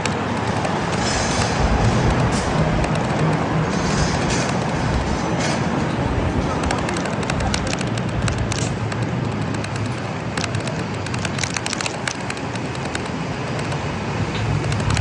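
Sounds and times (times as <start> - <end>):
car road and engine noise: 0.0 - 15.0
small clicks and crackles: 0.0 - 15.0.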